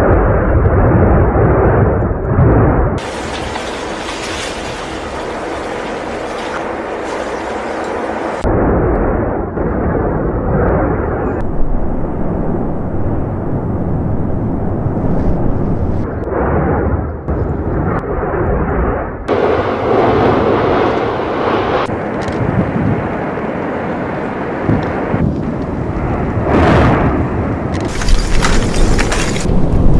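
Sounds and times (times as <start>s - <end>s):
volcano rumbling and blasting: 0.0s - 29.9s.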